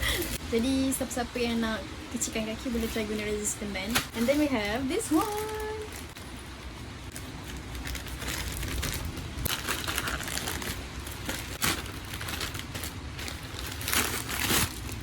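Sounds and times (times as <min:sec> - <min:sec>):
plastic packaging crinkling: 0:02.7 - 0:15.0.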